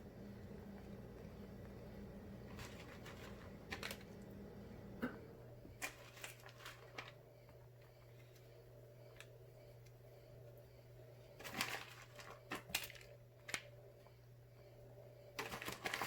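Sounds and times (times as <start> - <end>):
low steady hum: 0.0 - 16.0
cheese rustling on dough: 0.2 - 5.0, 5.7 - 16.0.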